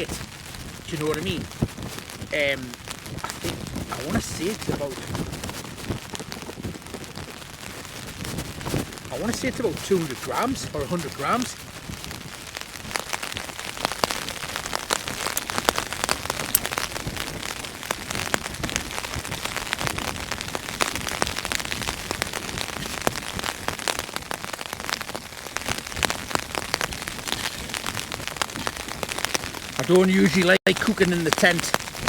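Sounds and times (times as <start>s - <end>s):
heavy rain on tent fabric: 0.0s - 32.0s.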